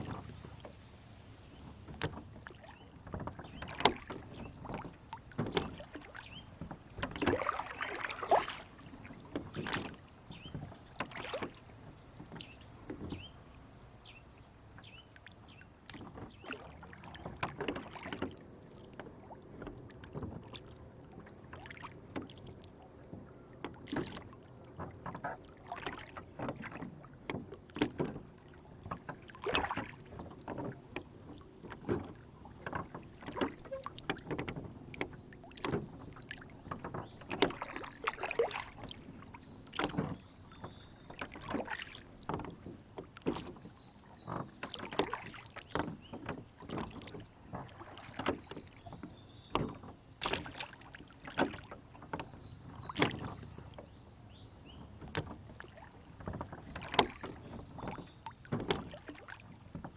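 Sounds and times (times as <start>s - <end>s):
oars knocking and splashing: 0.0s - 59.9s
water lapping against boat hull: 0.0s - 59.9s.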